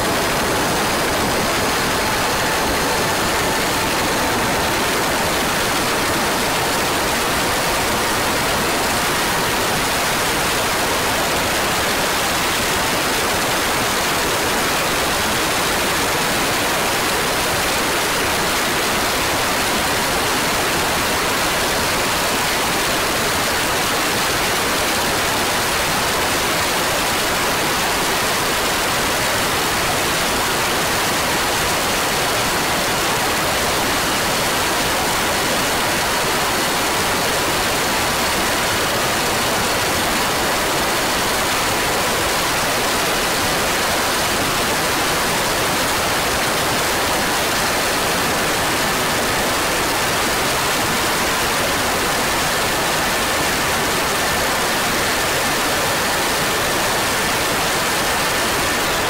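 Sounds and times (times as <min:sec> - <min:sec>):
loud steady hiss: 0:00.0 - 0:59.0.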